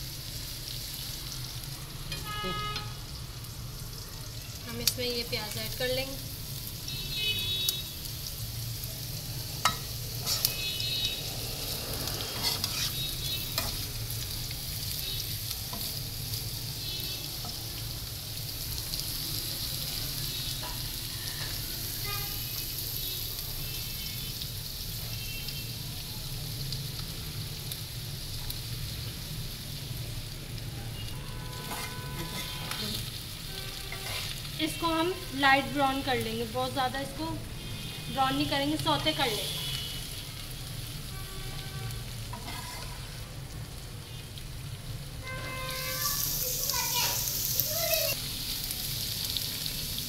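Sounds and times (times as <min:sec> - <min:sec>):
hot oil sizzling: 0:00.0 - 0:50.0.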